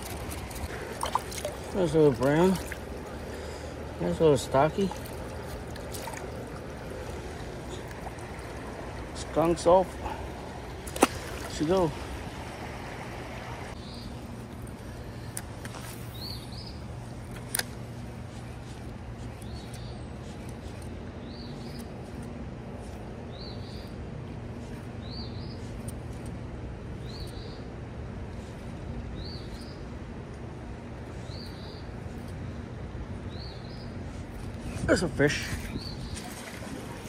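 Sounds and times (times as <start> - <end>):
creek water running: 0.0 - 29.2, 29.8 - 37.0
low steady hum: 0.0 - 37.0.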